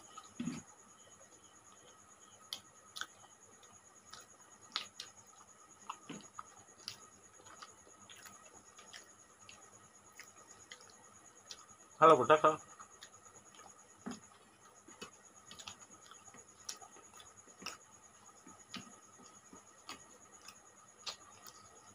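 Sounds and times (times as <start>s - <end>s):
people chewing and lip smacks: 0.0s - 12.0s, 12.6s - 21.9s
faint high-pitched whine: 0.0s - 21.9s.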